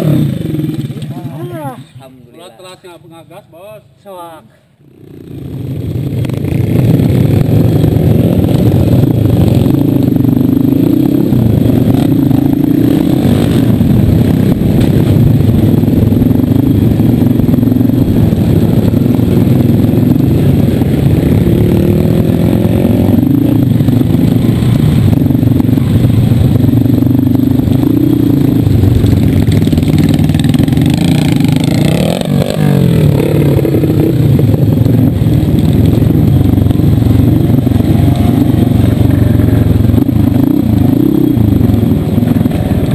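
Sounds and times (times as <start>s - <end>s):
dirt bike engine revving: 0.0s - 1.7s, 4.8s - 42.9s.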